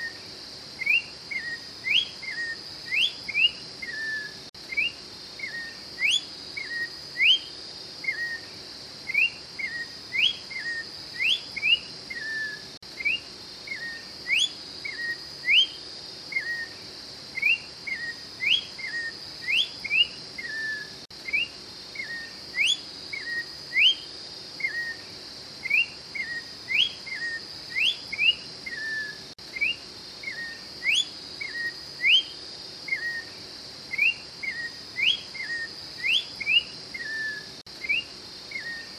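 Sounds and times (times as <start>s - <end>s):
steady high-pitched hum: 0.0s - 38.9s
bird singing whistled phrases: 0.8s - 8.5s, 9.1s - 16.8s, 17.4s - 25.0s, 25.6s - 33.3s, 33.9s - 38.9s.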